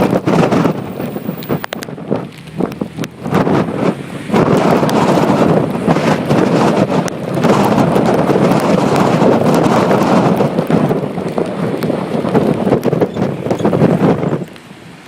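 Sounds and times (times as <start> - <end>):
rain ticking on microphone: 0.0 - 15.0
wind buffeting microphone: 0.0 - 15.0.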